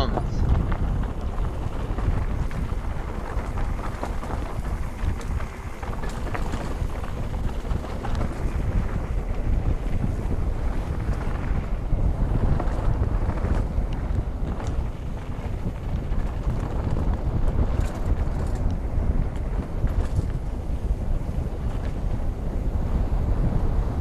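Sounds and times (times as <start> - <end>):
bike clicks and rattles: 0.0 - 24.0
wind buffeting microphone: 0.0 - 24.0.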